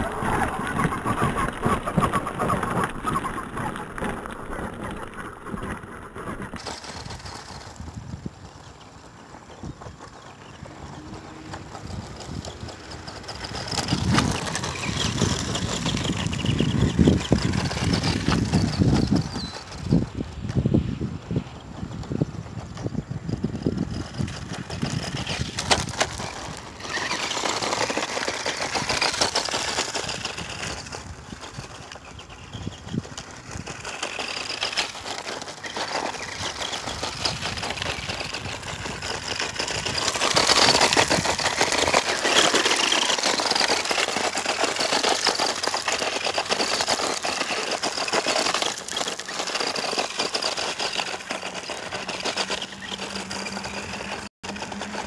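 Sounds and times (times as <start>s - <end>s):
tyres crunching over gravel: 0.0s - 20.6s, 22.0s - 55.0s.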